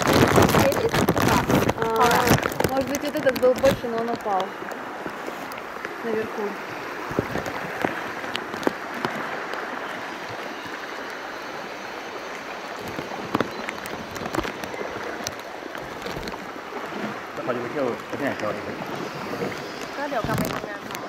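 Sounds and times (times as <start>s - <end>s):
short knocks and splashes: 0.0s - 10.7s, 12.8s - 21.0s
river water rushing: 0.0s - 21.0s.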